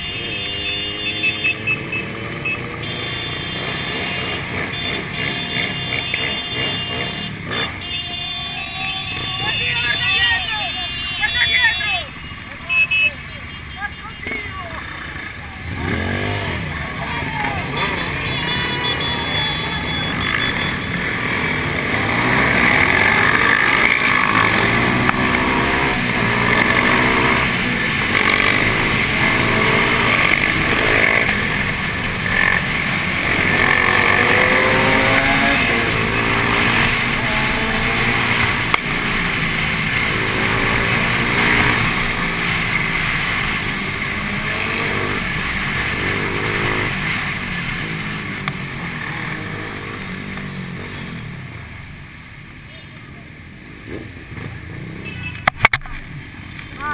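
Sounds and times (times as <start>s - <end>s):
motorcycle engines accelerating: 0.0s - 52.4s, 53.0s - 56.9s.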